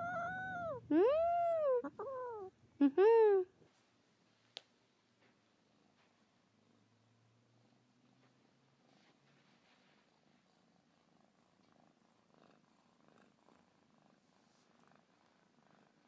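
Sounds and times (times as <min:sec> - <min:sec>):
kitten purring: 0:00.0 - 0:02.6, 0:05.5 - 0:16.0.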